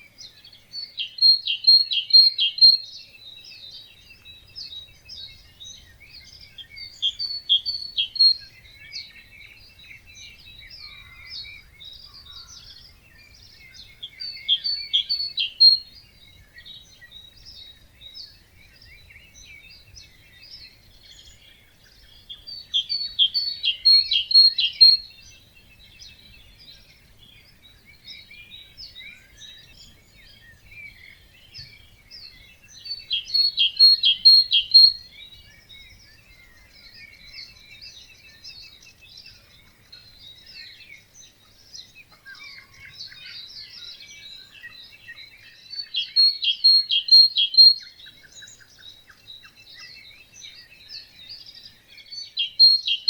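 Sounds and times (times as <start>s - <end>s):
bird singing repeated notes: 0.0s - 53.0s
birds chirping and twittering: 0.0s - 53.0s.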